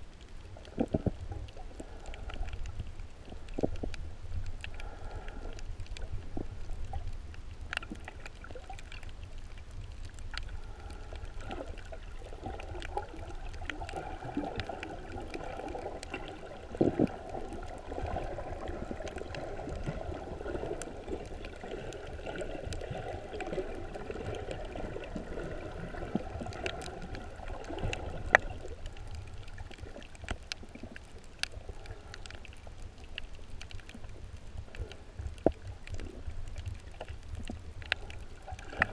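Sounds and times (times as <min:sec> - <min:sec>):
muffled underwater noise: 0:00.0 - 0:38.9
underwater clicks and crackles: 0:00.0 - 0:38.9.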